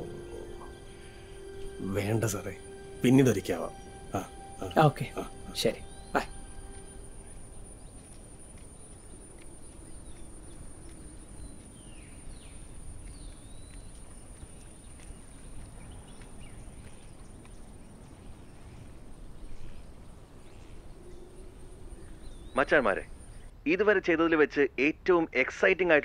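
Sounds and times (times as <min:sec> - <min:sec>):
bird chirps: 0:00.0 - 0:23.5.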